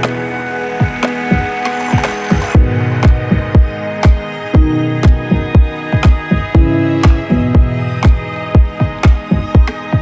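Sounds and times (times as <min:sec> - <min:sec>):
heavy kick drum: 0:00.8 - 0:10.0.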